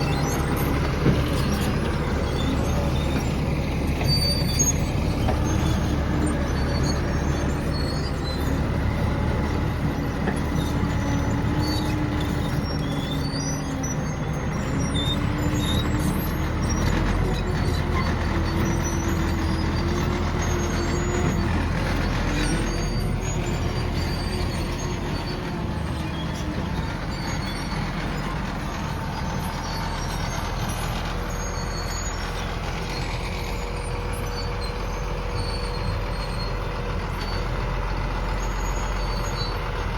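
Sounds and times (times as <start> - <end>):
vehicle motor whining: 0.0 - 36.4.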